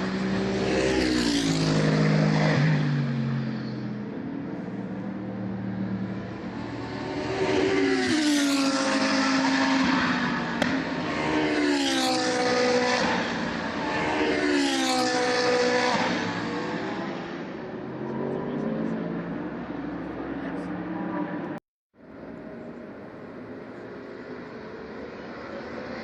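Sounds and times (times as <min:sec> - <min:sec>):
race cars passing at speed: 0:00.0 - 0:26.0.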